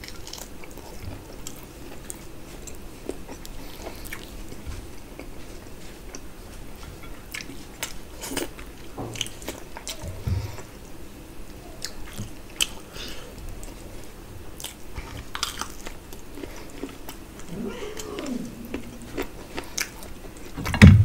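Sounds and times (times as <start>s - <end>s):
man chewing food: 0.0s - 11.1s, 11.8s - 20.5s.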